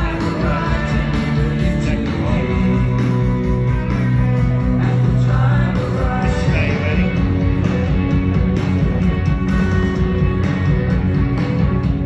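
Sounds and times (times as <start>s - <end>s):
distant rock band: 0.0s - 12.0s.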